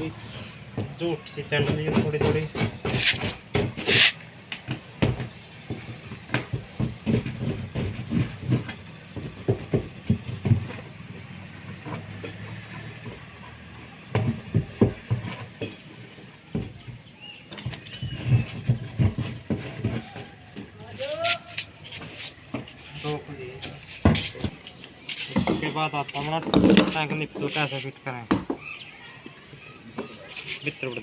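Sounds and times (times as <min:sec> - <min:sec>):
tools knocking and scraping: 0:00.0 - 0:31.0.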